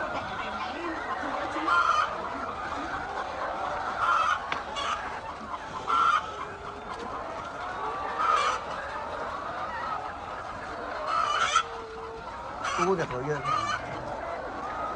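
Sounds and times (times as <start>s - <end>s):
hens clucking: 0.0s - 14.9s.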